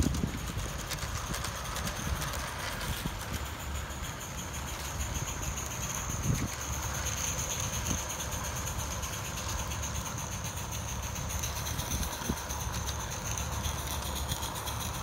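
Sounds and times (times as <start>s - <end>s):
wheels ticking on track: 0.0s - 15.0s
wind buffeting microphone: 0.0s - 15.0s.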